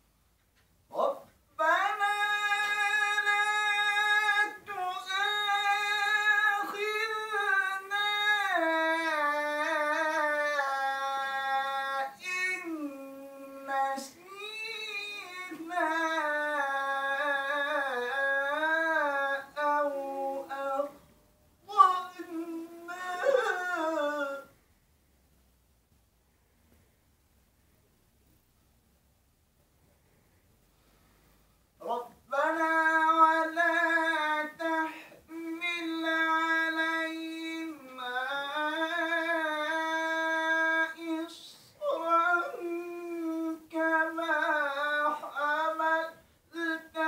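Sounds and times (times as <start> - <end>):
man reciting melodically: 0.5 - 24.6, 31.7 - 47.0.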